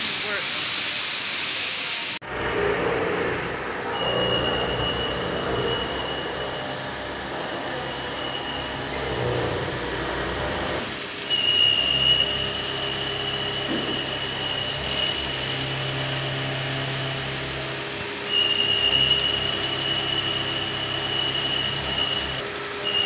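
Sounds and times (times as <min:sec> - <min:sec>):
machinery low hum: 0:02.2 - 0:22.6
high machine whine: 0:02.2 - 0:23.0.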